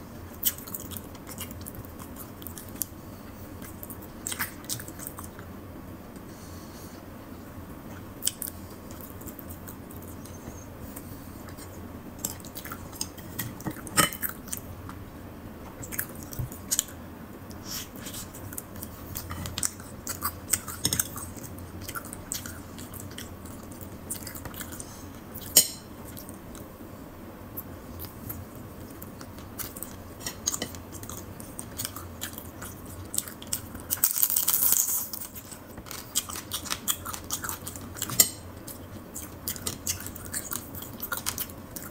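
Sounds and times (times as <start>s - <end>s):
chewing and crunching food: 0.2s - 5.6s, 7.8s - 15.0s, 15.7s - 17.0s, 17.8s - 26.7s, 27.6s - 41.9s.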